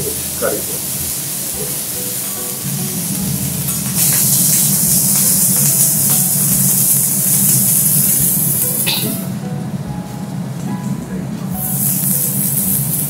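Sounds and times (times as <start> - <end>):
fish sizzling on a griddle: 0.0 - 9.2, 11.6 - 13.0.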